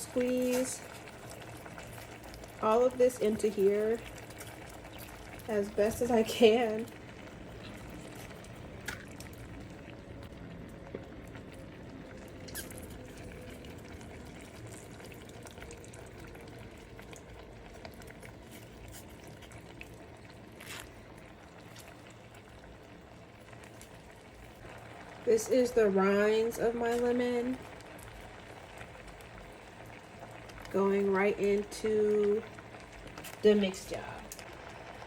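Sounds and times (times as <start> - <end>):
pot of water bubbling: 0.0 - 35.0.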